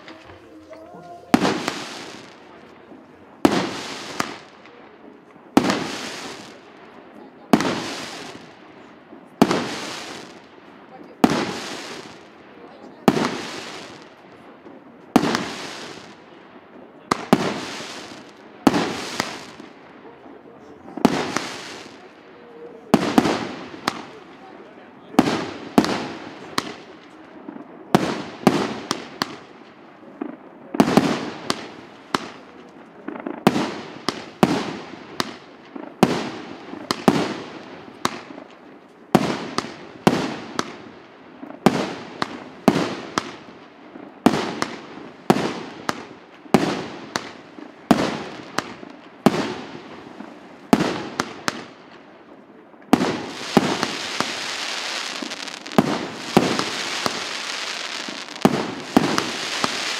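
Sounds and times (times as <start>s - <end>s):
continuous crackling hiss: 0.0s - 59.9s
fireworks bangs with hiss: 0.0s - 59.9s.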